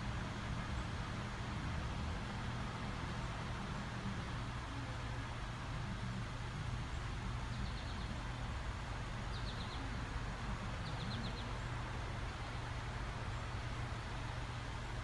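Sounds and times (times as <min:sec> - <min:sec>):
distant train rumble and hiss: 0:00.0 - 0:15.0.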